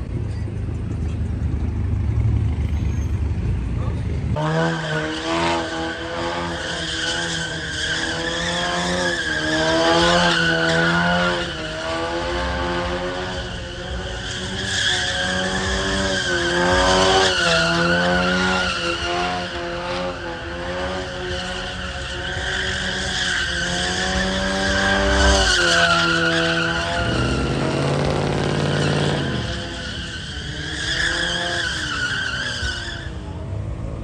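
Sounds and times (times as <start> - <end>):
car engine revving: 3.9 - 33.3.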